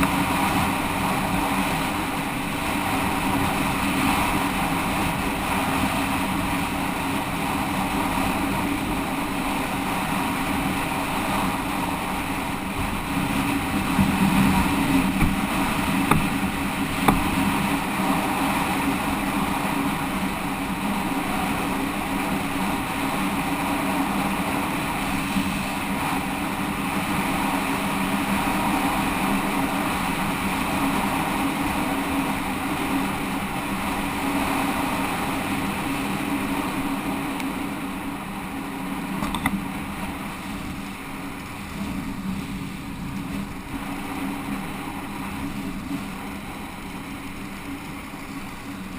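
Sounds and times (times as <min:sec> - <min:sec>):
motorcycle engine running: 0:00.0 - 0:48.9
wind rushing over microphone: 0:00.0 - 0:48.9.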